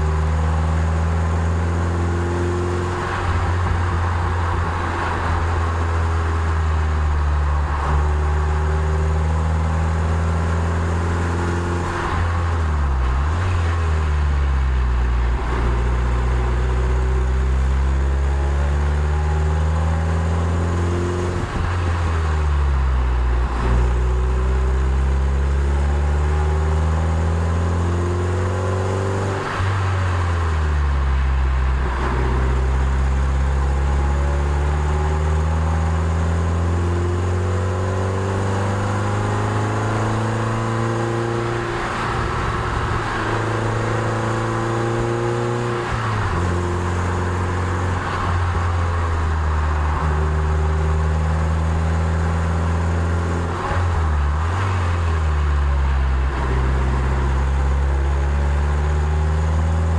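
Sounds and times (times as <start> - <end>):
car engine revving uphill: 0.0 - 59.9.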